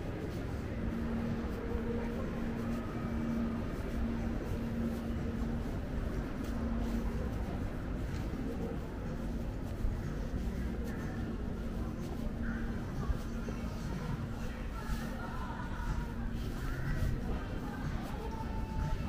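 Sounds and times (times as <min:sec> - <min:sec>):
low street rumble: 0:00.0 - 0:19.0
mechanical hum: 0:00.0 - 0:19.0.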